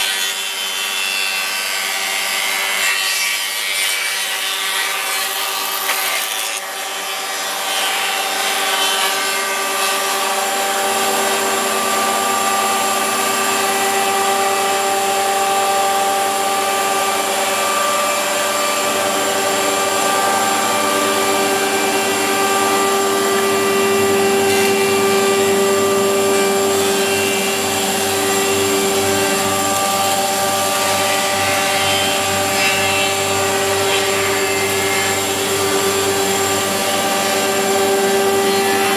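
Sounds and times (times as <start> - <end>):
planer machine whining: 0.0 - 38.9.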